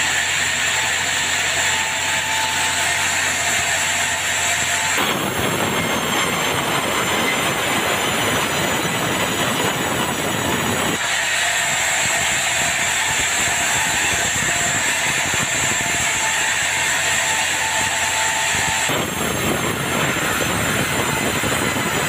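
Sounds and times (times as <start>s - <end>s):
band saw cutting wood: 0.0s - 22.0s
saw blade high whine: 0.0s - 22.0s.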